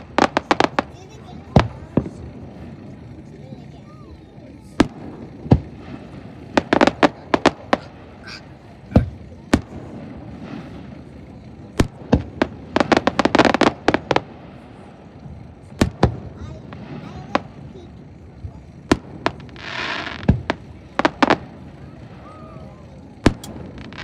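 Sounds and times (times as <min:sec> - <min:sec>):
fireworks shells bursting: 0:00.0 - 0:03.2, 0:04.7 - 0:24.0.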